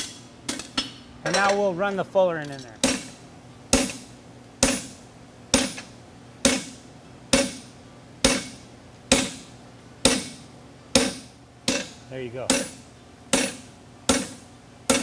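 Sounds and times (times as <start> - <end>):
hammer striking hot steel on anvil: 2.8 - 15.0.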